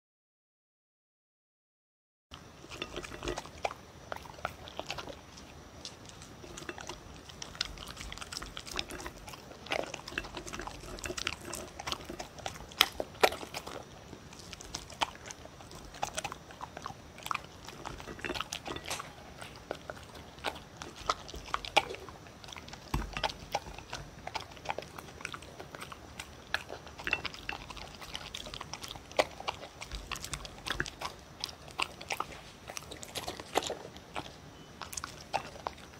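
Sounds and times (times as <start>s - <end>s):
dog chewing dry kibble: 2.3s - 35.9s.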